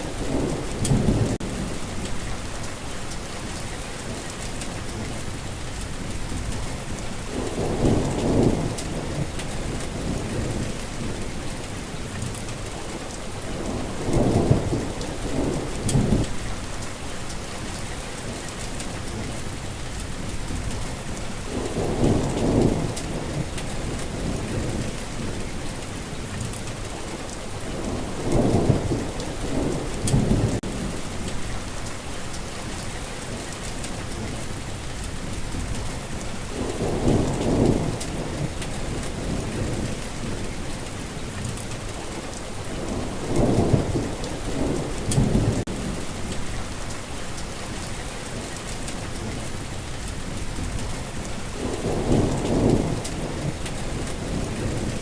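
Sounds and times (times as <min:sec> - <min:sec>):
thunder rumbling: 0:00.0 - 0:26.8, 0:27.4 - 0:55.0
heavy rain falling: 0:00.0 - 0:55.0.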